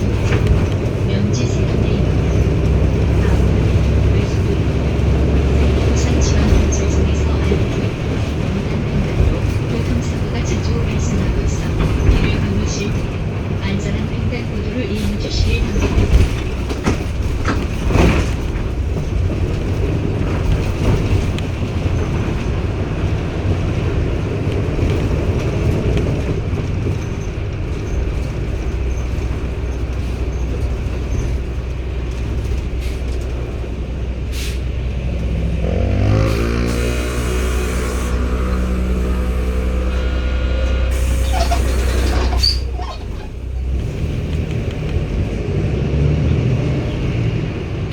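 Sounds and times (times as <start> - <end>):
engine knocks: 0.0 - 45.7
diesel bus engine rumbling: 0.0 - 47.9.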